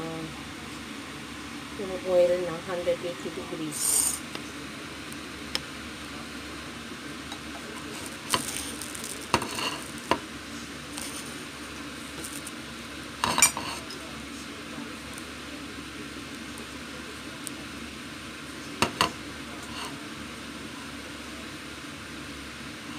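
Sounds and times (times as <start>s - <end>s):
steady low hiss: 0.0s - 22.9s.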